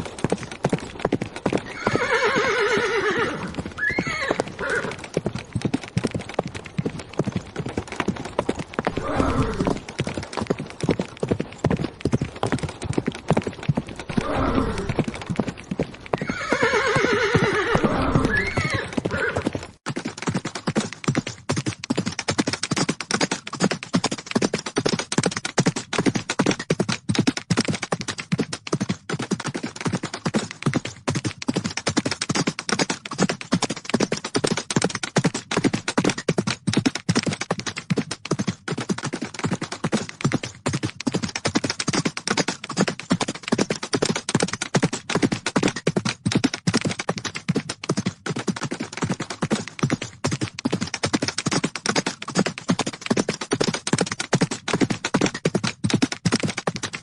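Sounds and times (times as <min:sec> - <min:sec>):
horses galloping: 0:00.0 - 0:57.0.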